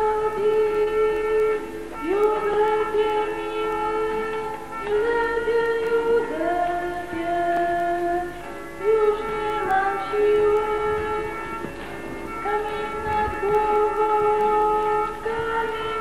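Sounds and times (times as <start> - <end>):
slow melody over sustained chord: 0.0 - 16.0.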